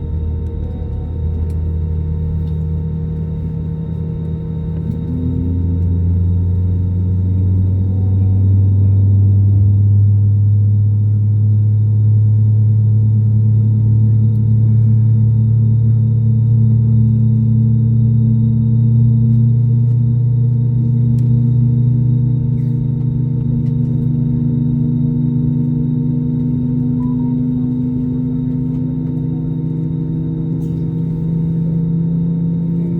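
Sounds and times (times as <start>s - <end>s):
faint high whine: 0.0s - 32.9s
jet engine drone in cabin: 0.0s - 32.9s.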